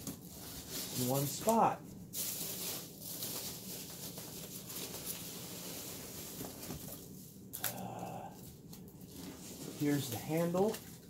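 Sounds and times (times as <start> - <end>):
packing peanuts rustling: 0.0 - 7.8, 8.5 - 11.0.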